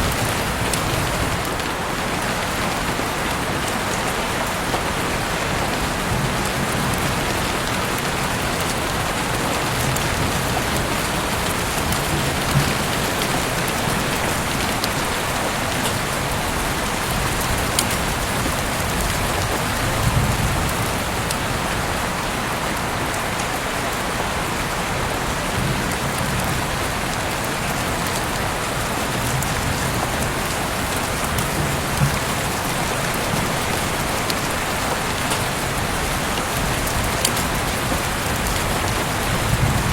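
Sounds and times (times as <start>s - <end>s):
raindrops ticking: 0.0s - 2.7s, 3.6s - 22.1s, 25.5s - 39.9s
heavy rain hissing: 0.0s - 39.9s.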